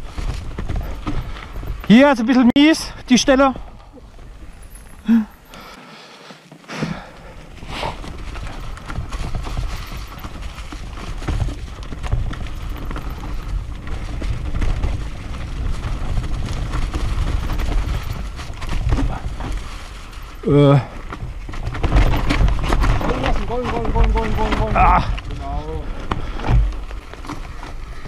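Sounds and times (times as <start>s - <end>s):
bike rattling and knocking: 0.0s - 5.8s, 6.4s - 28.0s
tyres crunching over leaves and stones: 0.0s - 28.0s.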